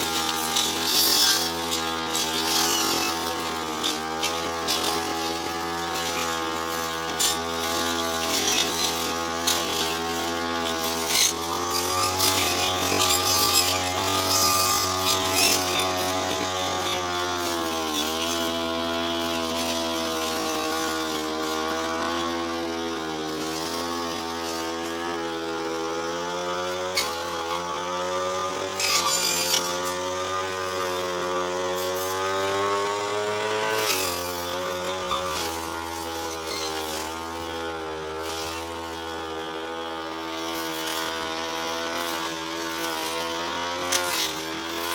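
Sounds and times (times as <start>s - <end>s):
brush cutter engine cutting grass: 0.0s - 44.9s.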